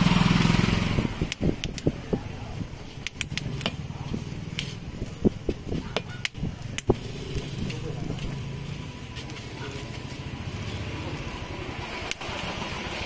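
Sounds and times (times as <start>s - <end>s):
motor vehicle humming: 0.0s - 13.0s.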